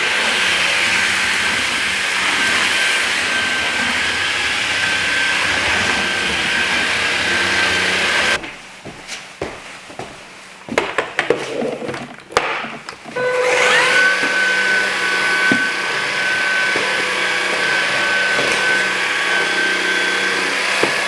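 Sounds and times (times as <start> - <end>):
stick vacuum running: 0.0 - 8.4, 11.5 - 21.0.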